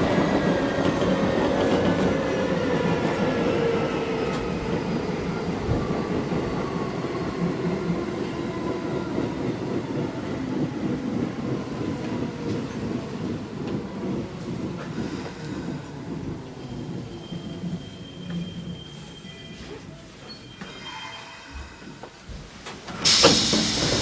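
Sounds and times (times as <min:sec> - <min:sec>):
train wheels rumbling on rail: 0:00.0 - 0:20.9, 0:21.6 - 0:24.0.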